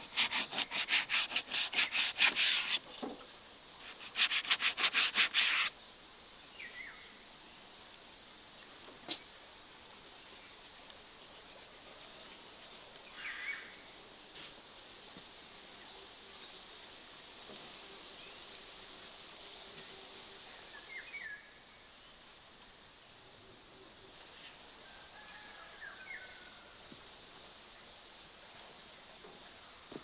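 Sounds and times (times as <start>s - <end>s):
insect hiss: 0.0s - 30.0s.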